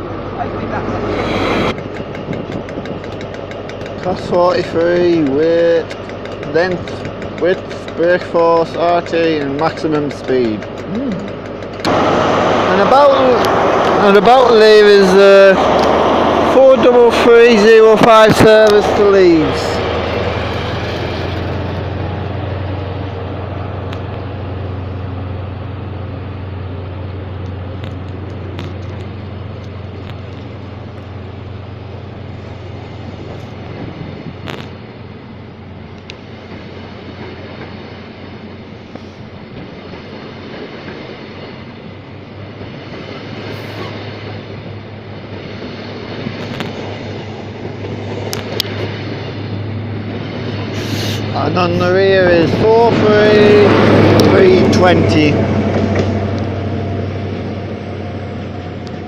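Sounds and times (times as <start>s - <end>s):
diesel train engines droning: 0.0s - 59.0s.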